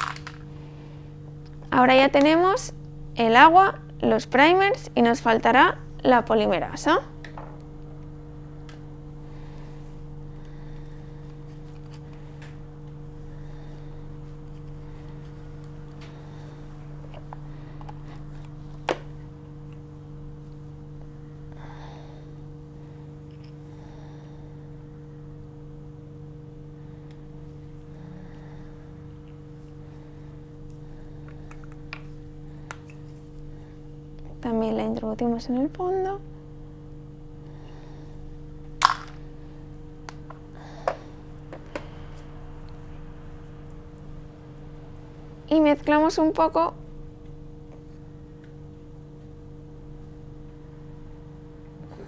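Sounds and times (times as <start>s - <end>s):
lab equipment hum: 0.0s - 52.0s.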